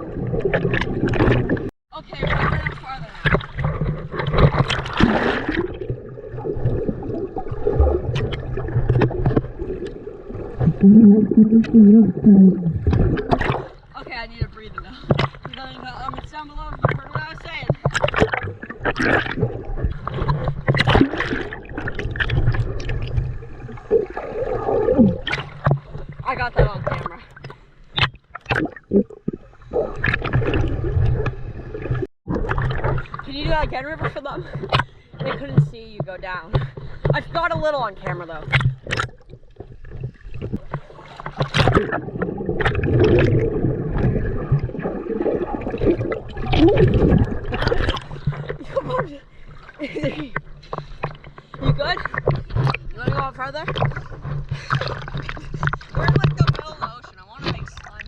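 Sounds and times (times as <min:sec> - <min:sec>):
sea water sloshing and splashing: 0:00.0 - 0:58.0.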